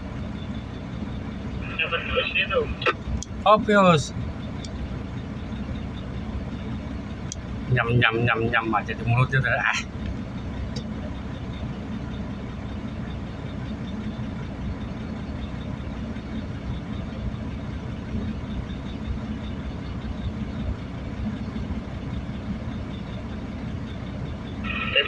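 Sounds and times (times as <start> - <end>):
low engine-like rumble: 0.0 - 25.0.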